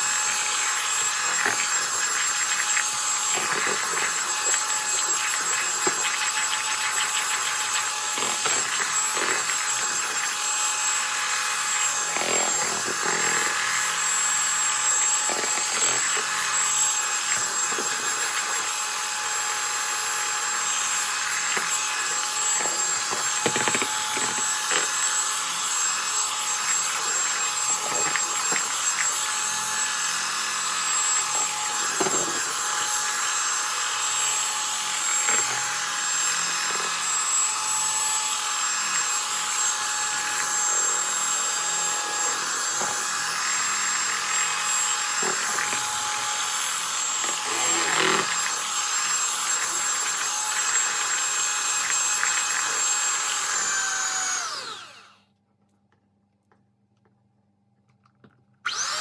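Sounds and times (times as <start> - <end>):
electric hand mixer running: 0.0 - 55.2, 58.6 - 59.0.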